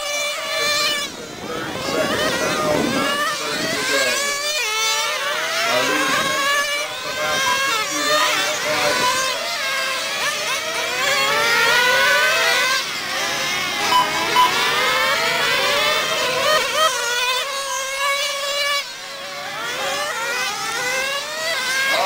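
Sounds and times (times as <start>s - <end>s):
small model car engines revving: 0.0s - 22.0s.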